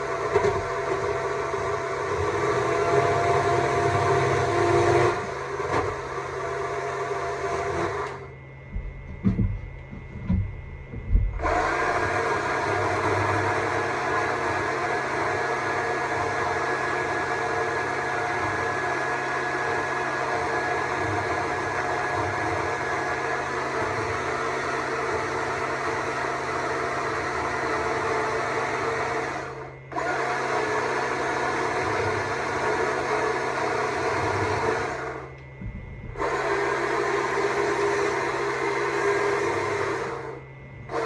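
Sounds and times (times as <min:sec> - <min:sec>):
chainsaw carving wood: 0:00.0 - 0:08.2, 0:11.4 - 0:41.0.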